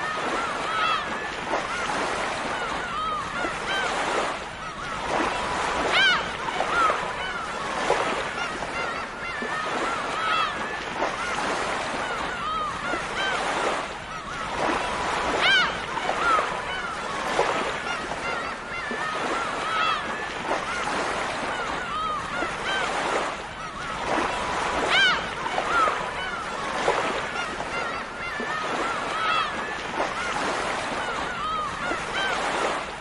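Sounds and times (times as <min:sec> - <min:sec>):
gulls calling: 0:00.0 - 0:33.0
surf washing: 0:00.0 - 0:33.0.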